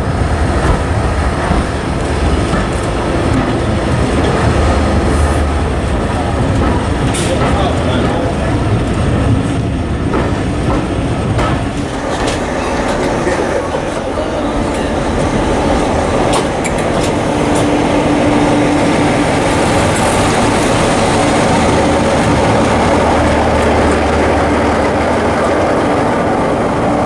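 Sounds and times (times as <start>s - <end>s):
train wheels clicking over rail joints: 0.1s - 24.4s.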